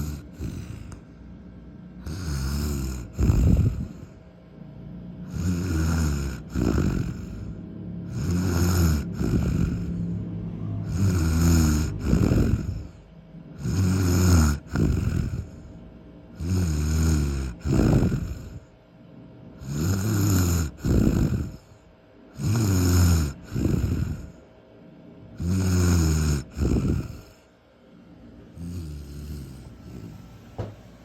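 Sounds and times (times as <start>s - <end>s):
person snoring: 0.0s - 1.2s, 1.9s - 4.2s, 5.2s - 18.8s, 19.6s - 24.4s, 25.3s - 27.5s, 28.5s - 30.4s.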